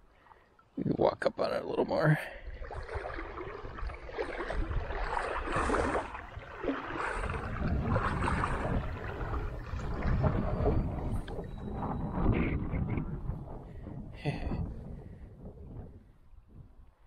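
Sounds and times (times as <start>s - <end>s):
wind buffeting microphone: 2.4s - 17.0s.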